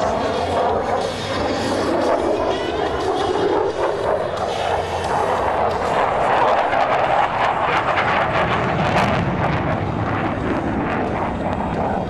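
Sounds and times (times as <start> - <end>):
jet roaring in afterburner: 0.0 - 12.0.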